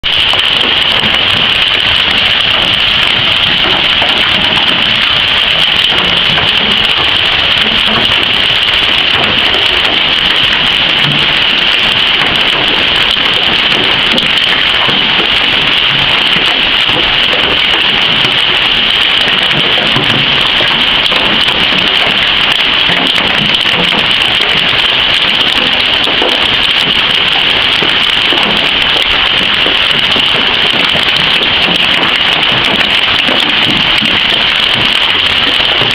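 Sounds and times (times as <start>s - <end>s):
hailstones pelting down: 0.0s - 35.9s.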